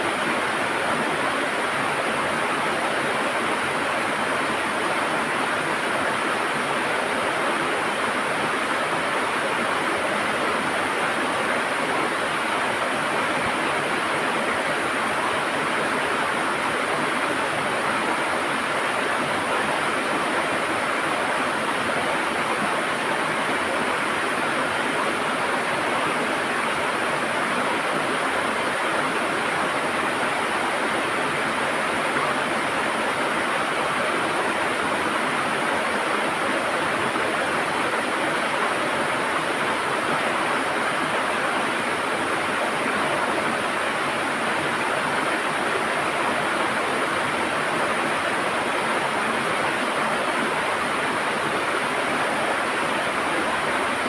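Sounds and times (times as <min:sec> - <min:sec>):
river water gurgling and rushing: 0:00.0 - 0:54.0.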